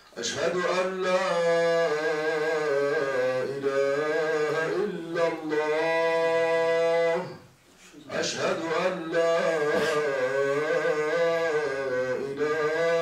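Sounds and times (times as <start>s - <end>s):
man chanting call to prayer: 0.2s - 13.0s.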